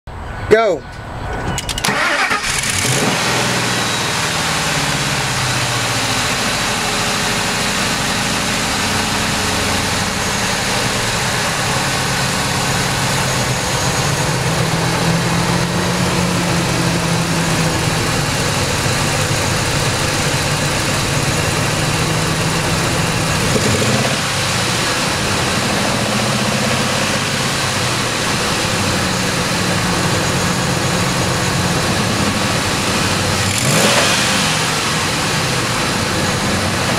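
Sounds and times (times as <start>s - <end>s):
car engine idling: 1.8s - 36.9s.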